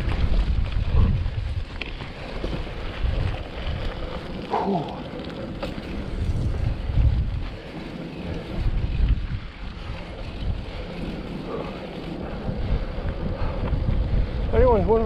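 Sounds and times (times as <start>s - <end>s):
bike tyre rumble on rough track: 0.0s - 15.0s
wind buffeting microphone: 0.0s - 15.0s.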